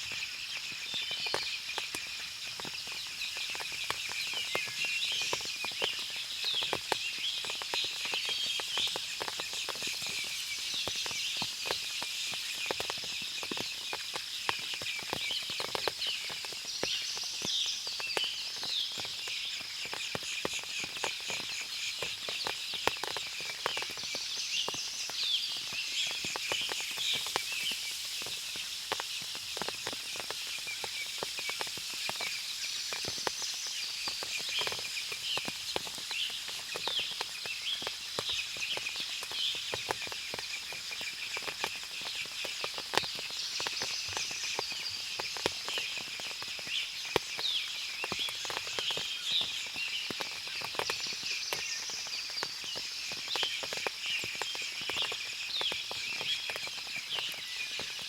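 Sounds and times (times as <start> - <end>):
small clicks and drips: 0.0 - 58.0.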